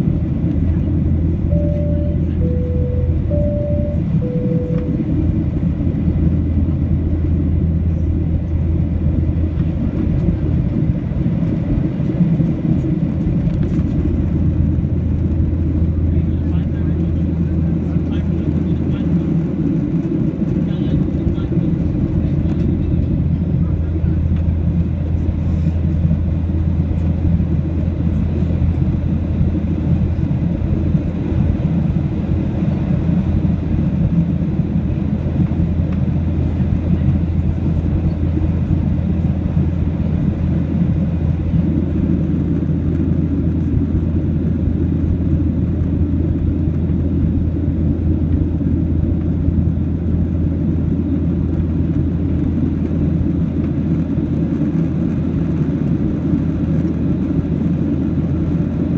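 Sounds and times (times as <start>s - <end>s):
jet engine low rumble: 0.0s - 58.9s.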